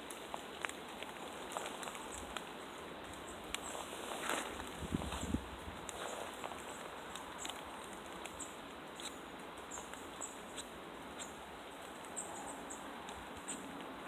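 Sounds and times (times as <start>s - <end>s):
rain pattering in woodland: 0.0s - 14.0s.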